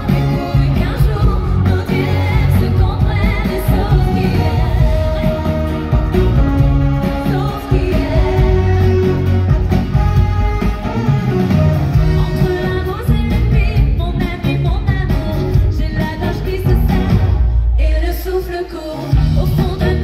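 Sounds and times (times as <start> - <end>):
woman singing: 0.0 - 9.5, 11.9 - 20.0
live pop band playing: 0.0 - 20.0.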